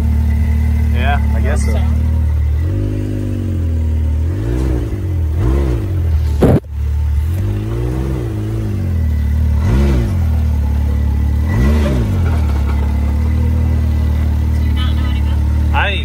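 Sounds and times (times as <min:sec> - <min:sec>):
engine throttle blips: 0:00.0 - 0:16.0.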